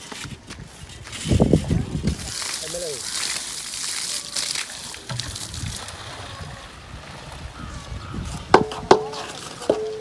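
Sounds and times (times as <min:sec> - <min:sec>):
hose water splashing on bricks: 0:00.0 - 0:10.0.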